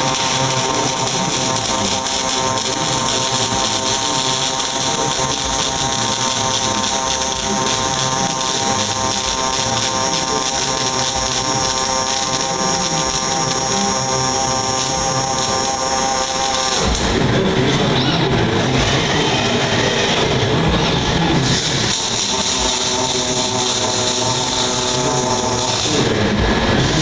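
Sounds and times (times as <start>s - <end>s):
welding arc buzzing and hissing: 0.0s - 17.9s, 18.5s - 27.0s.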